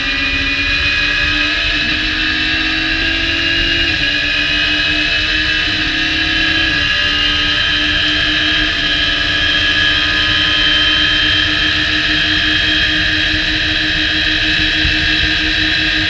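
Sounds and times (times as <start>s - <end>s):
race car engine at full throttle: 0.0s - 16.0s
wind rush: 0.0s - 16.0s.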